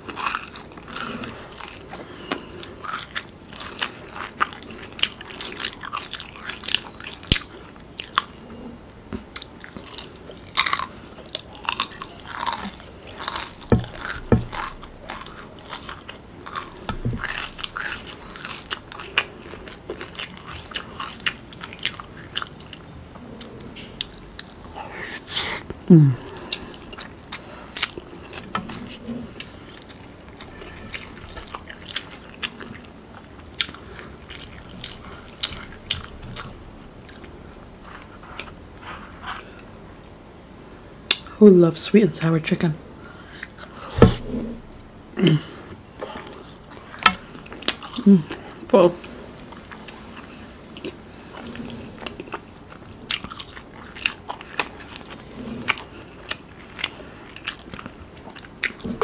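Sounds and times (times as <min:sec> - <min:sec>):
crunching and chewing food: 0:00.0 - 0:41.4, 0:42.4 - 0:59.0.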